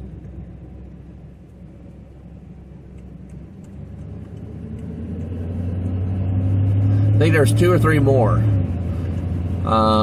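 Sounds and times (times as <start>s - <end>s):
truck engine hum: 0.0s - 10.0s.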